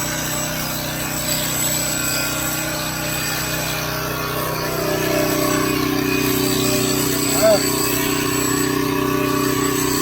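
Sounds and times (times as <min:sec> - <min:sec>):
electric hair clipper buzzing: 0:01.6 - 0:10.0.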